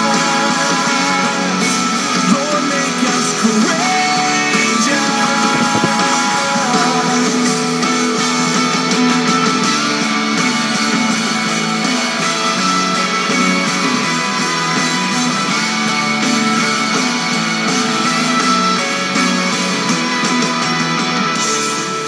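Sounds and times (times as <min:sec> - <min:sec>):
guitar music: 0:00.0 - 0:22.0.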